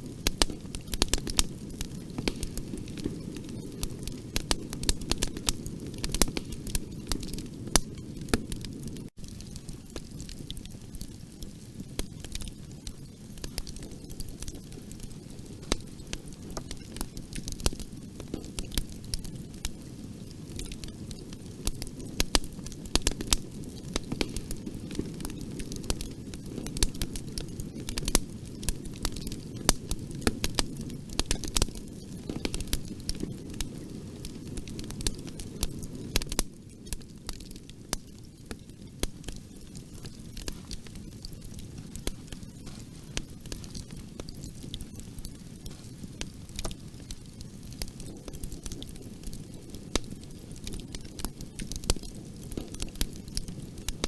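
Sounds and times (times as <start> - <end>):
fire pops and snaps: 0.0 - 54.0
low rumble of flame: 0.0 - 54.0.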